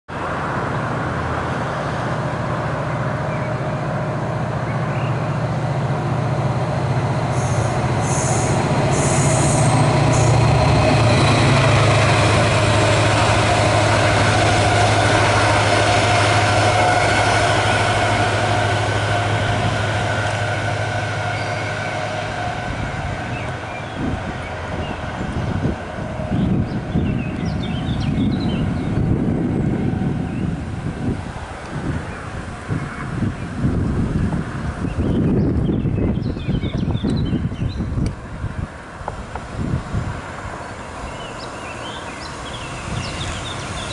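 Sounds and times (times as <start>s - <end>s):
trains rumbling past: 0.1s - 43.9s.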